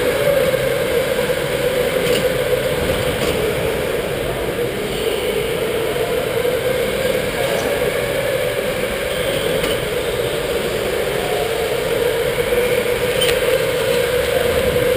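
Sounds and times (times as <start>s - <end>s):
machine whirring: 0.0s - 14.9s.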